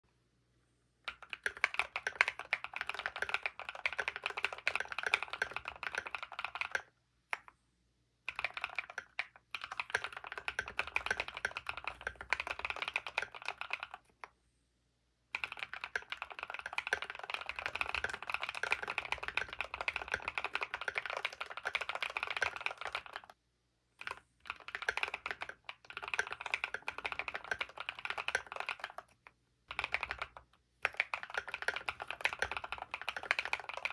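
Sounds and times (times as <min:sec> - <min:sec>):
fast mechanical keyboard typing: 0:01.1 - 0:06.9, 0:08.3 - 0:14.1, 0:15.3 - 0:23.4, 0:24.0 - 0:33.9.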